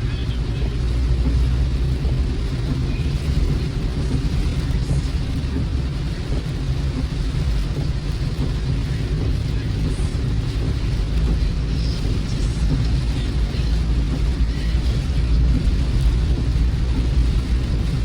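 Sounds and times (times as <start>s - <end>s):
car interior engine rumble: 0.0s - 18.0s
rain and tyres on wet road: 0.0s - 18.0s.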